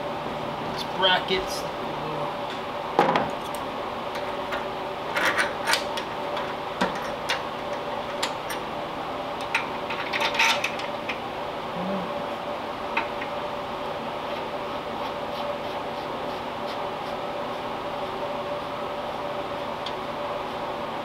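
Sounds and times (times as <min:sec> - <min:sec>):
shop fans humming: 0:00.0 - 0:21.0.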